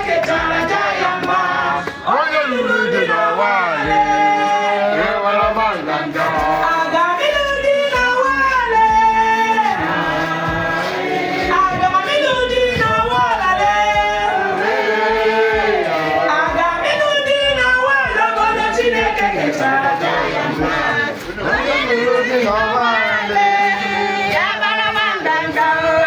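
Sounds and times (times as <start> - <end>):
music: 0.0 - 26.0
voices singing together: 0.0 - 26.0.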